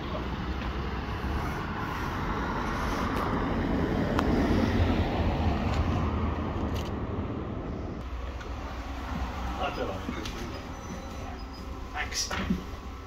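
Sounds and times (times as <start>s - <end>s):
diesel bus engine idling: 0.0s - 13.0s.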